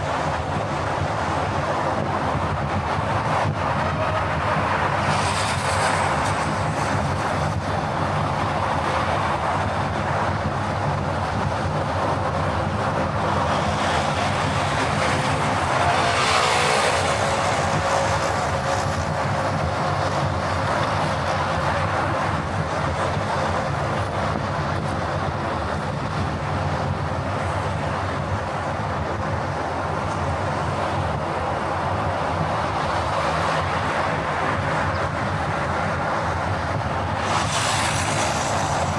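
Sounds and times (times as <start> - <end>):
car driving noise: 0.0 - 38.9.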